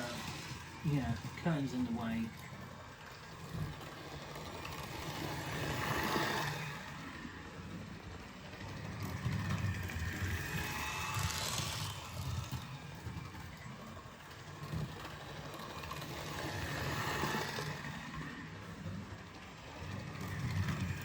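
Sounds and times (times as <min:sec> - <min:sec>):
model train motor hum: 0:00.0 - 0:21.0
wheels rattling on rails: 0:00.0 - 0:21.0.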